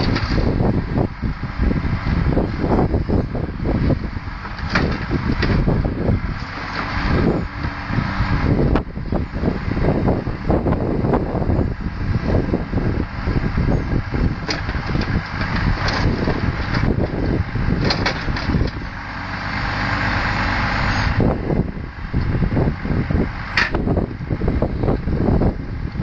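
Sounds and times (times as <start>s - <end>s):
diesel lorry engine running: 0.0s - 26.0s.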